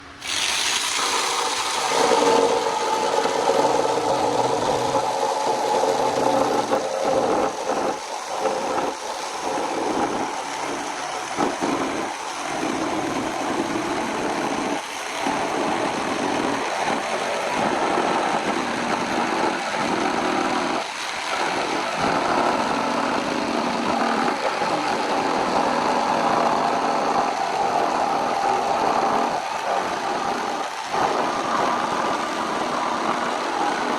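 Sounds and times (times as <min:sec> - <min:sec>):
electric jigsaw cutting wood: 0:00.1 - 0:33.9.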